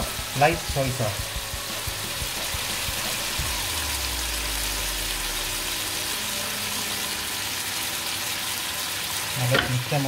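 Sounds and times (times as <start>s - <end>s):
meat frying in hot oil: 0.0s - 10.0s.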